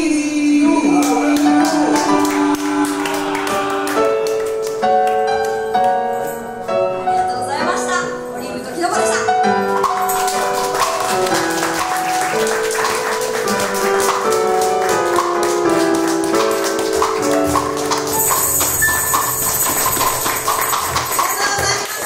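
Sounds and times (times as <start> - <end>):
keyboard melody: 0.0 - 21.4
tapping percussion beat: 1.0 - 6.5, 9.5 - 22.0.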